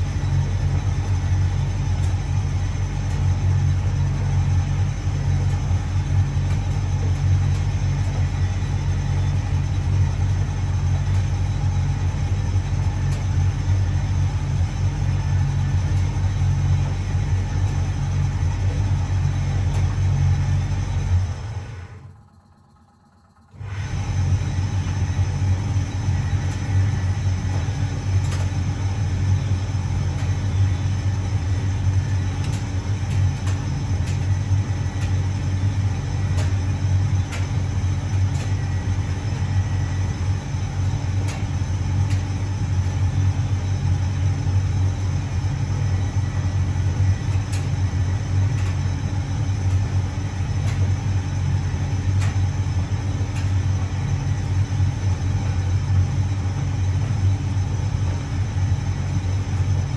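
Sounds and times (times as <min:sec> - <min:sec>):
tumble dryer running: 0:00.0 - 0:59.9.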